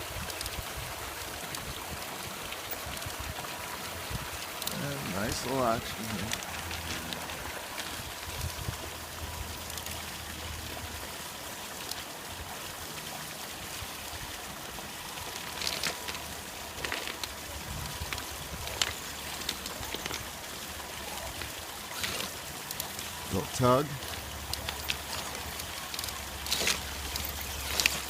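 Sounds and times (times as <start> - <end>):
creek water running: 0.0 - 28.0.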